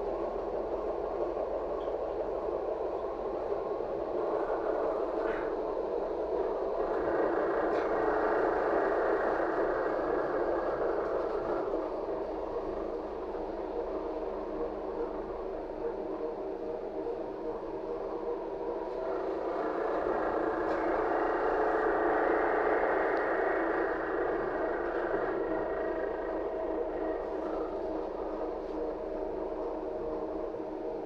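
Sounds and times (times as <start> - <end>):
trolleybus cabin running noise: 0.0 - 31.0.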